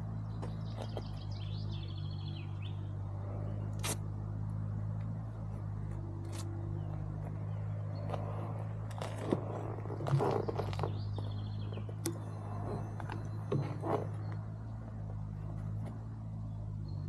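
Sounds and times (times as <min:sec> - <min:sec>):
motorcycle engine idling: 0:00.0 - 0:17.0
bird chirping: 0:00.1 - 0:03.8, 0:06.0 - 0:17.0.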